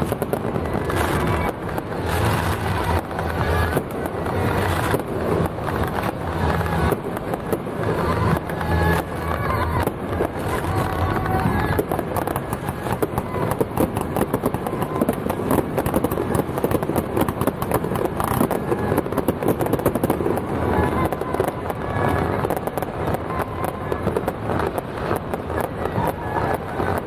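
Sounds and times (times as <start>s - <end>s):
firecrackers crackling: 0.0s - 27.0s.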